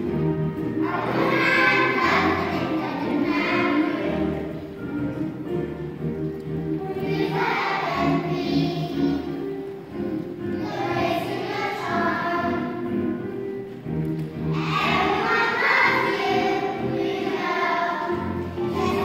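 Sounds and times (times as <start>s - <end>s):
children's choir singing: 0.0s - 13.7s, 14.4s - 19.0s
instrumental accompaniment: 0.0s - 19.0s.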